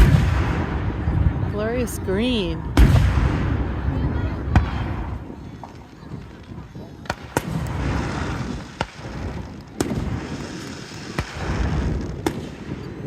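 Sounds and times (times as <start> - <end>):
low booms and echoes: 0.0 - 10.5
fireworks bursting with sharp bangs: 0.0 - 13.0.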